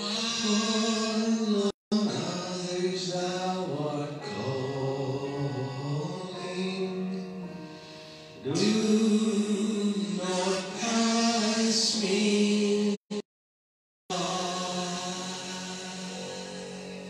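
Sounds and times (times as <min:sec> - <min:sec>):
person singing a slow hymn: 0:00.0 - 0:13.2, 0:14.1 - 0:17.0.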